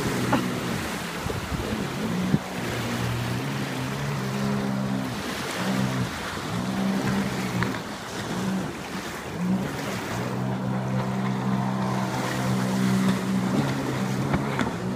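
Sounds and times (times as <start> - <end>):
jet ski engine droning: 0.0 - 14.9.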